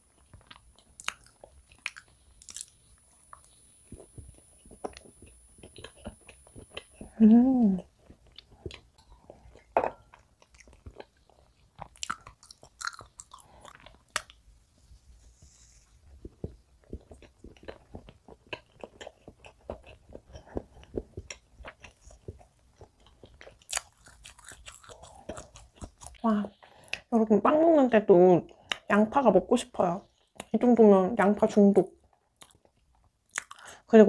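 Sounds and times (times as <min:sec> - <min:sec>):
soft wet chewing: 0:00.1 - 0:27.1, 0:29.8 - 0:30.6, 0:32.0 - 0:33.8.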